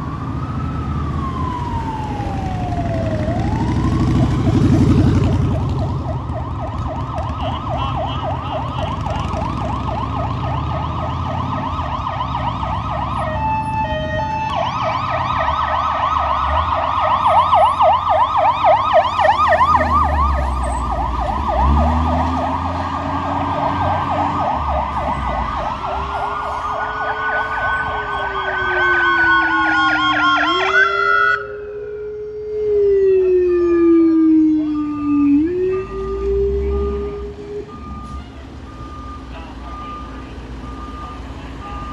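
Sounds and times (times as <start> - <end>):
fire engine diesel rumble: 0.0 - 30.4, 31.4 - 41.9
siren gliding downward: 0.0 - 41.9
siren yelping: 0.0 - 41.9.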